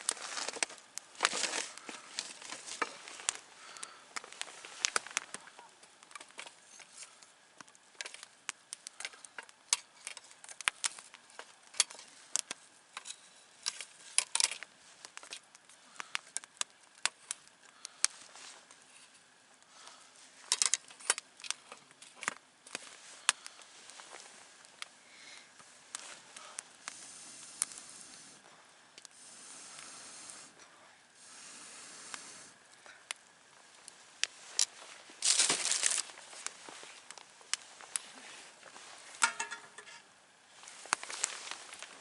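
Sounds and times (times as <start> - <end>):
campfire crackling and popping: 0.0 - 42.0
faint fire hiss: 0.0 - 42.0.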